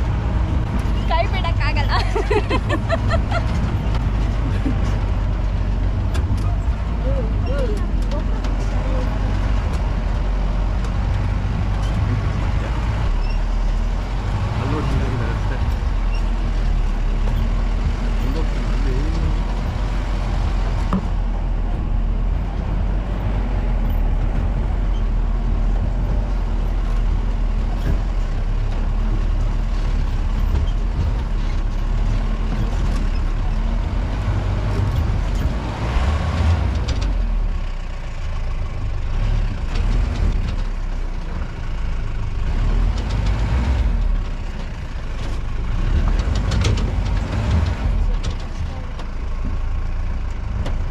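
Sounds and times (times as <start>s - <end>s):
jeep engine rumbling: 0.0s - 50.9s
vehicle jolting on rough track: 0.0s - 50.9s.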